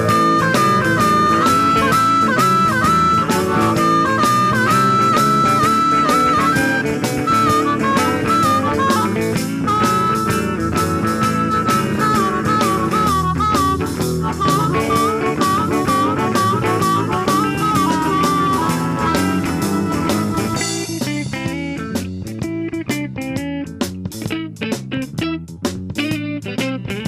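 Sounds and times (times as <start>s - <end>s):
bending lead melody: 0.0s - 27.0s
blues guitar music: 0.0s - 27.0s.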